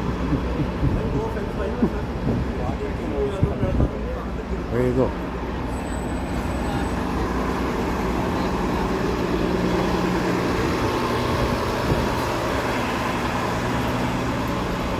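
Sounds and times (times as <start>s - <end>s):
bus engine idling: 0.0s - 14.9s
street traffic: 0.0s - 14.9s.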